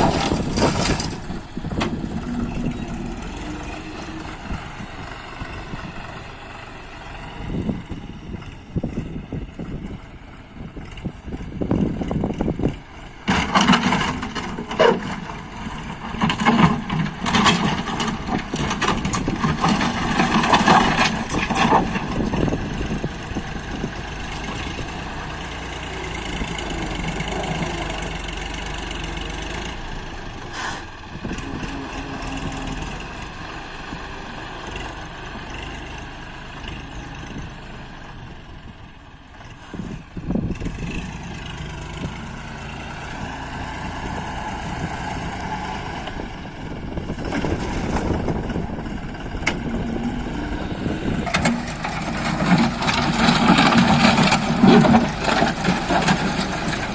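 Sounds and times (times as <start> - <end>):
engine crackling and clatter: 0.0 - 56.9
tractor diesel engine running: 0.0 - 56.9.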